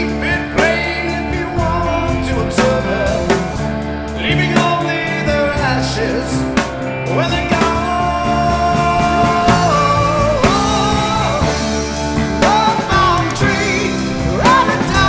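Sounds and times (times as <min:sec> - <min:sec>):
rock band playing: 0:00.0 - 0:15.0
sliding lead melody: 0:00.0 - 0:15.0.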